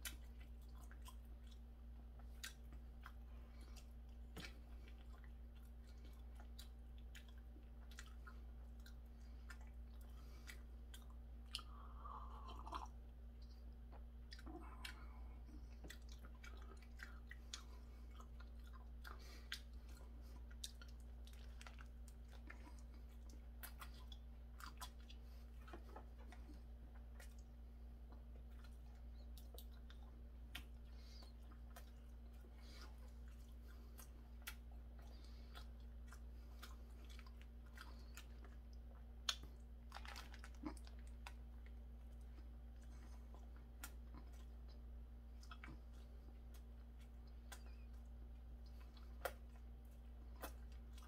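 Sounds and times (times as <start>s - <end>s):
low electrical hum: 0.0s - 51.0s
person chewing food: 0.0s - 51.0s.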